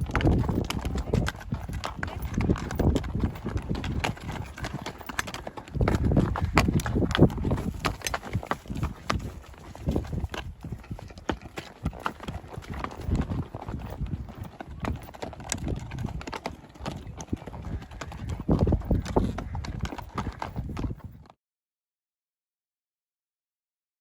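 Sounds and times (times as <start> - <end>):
horse hoofbeats: 0.0 - 21.4.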